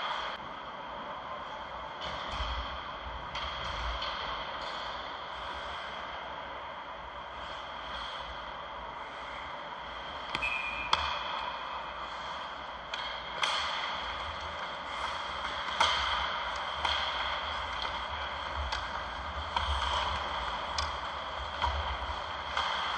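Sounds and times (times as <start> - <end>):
hockey sticks and puck clacking: 0.0 - 0.4, 2.0 - 6.8, 9.4 - 22.9
rink background noise: 0.0 - 22.9.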